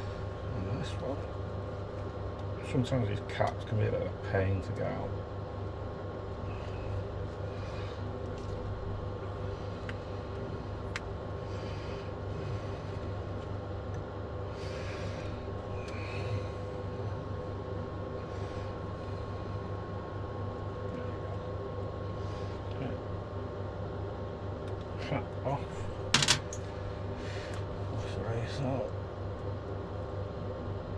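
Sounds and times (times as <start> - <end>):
steady hum with high whine: 0.0 - 30.9.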